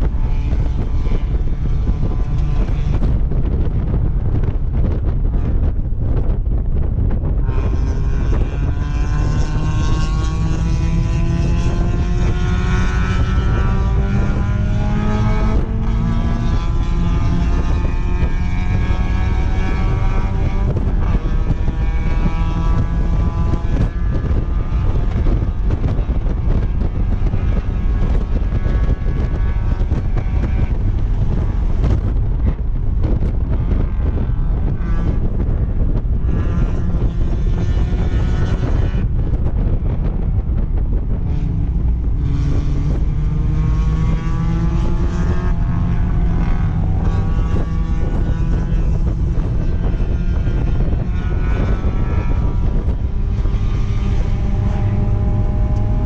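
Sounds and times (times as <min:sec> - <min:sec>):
car engine accelerating: 0:00.0 - 0:56.0
wind buffeting: 0:00.0 - 0:56.0.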